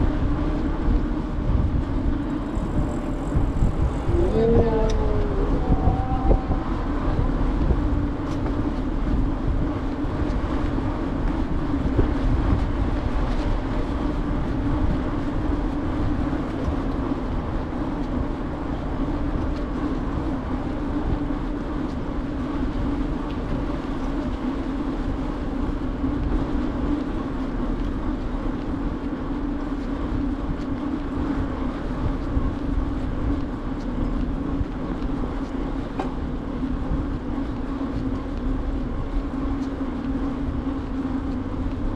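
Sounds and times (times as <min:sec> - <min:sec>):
bicycle tyre hum on pavement: 0:00.0 - 0:41.9.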